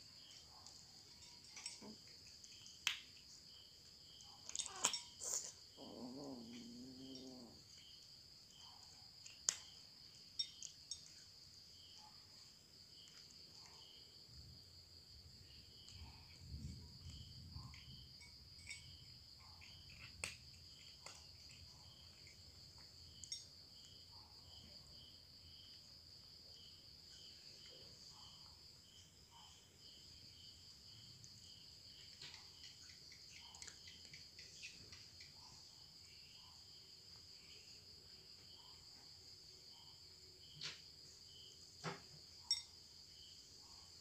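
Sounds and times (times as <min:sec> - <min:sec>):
crickets chirping: 0:00.0 - 0:44.0.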